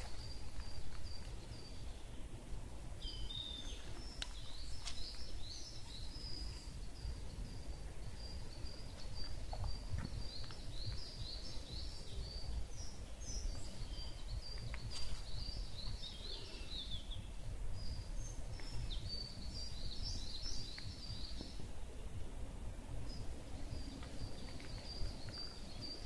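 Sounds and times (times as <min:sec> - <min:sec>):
songbirds singing: 0:00.0 - 0:26.0
steady low rumble: 0:00.0 - 0:26.0.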